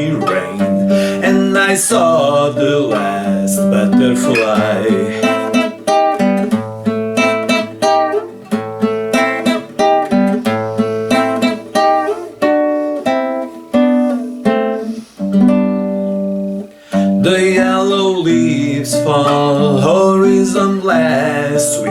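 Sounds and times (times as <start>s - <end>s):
acoustic guitar picking: 0.0s - 21.9s
guitar chord ringing: 0.0s - 21.9s.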